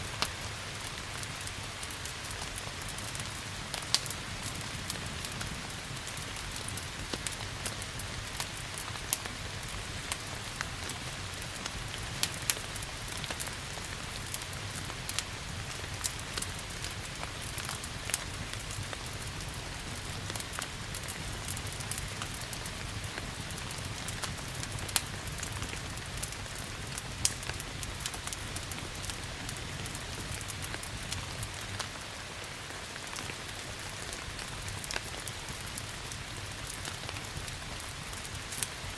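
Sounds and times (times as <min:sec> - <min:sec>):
steady rain hiss: 0:00.0 - 0:38.9
wood fire crackling: 0:00.0 - 0:38.9.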